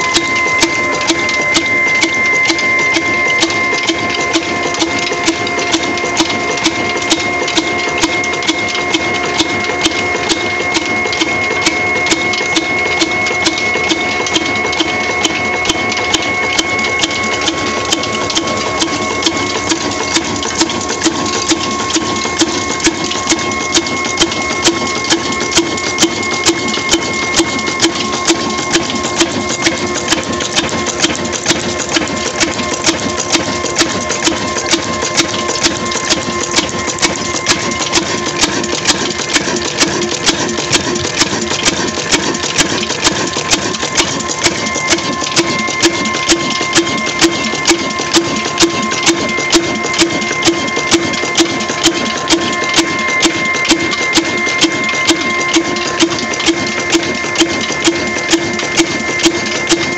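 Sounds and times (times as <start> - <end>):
single-cylinder engine beating: 0.0 - 59.9
steady high whine: 0.0 - 59.9.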